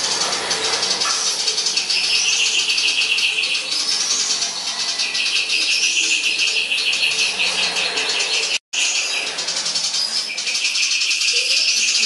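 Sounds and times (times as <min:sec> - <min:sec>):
songbird singing chattering notes: 0:00.0 - 0:12.0.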